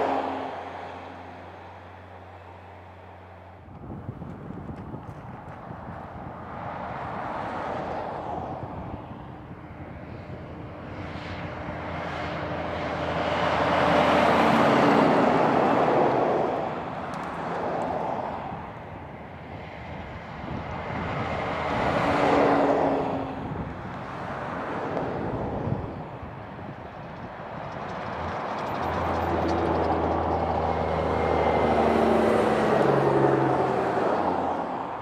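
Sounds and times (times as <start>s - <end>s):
vehicles driving past: 0.0s - 35.0s.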